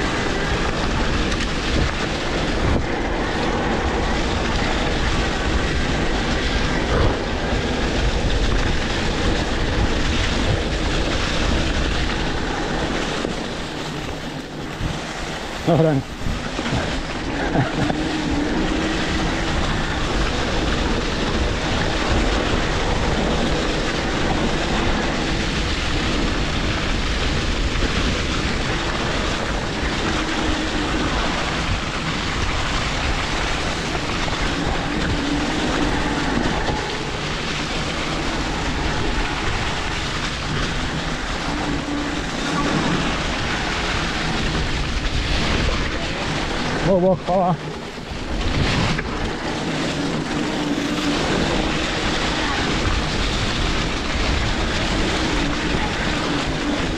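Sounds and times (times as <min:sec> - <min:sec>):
bike tyres and frame rattling: 0:00.0 - 0:56.9
wind on microphone: 0:00.0 - 0:56.9.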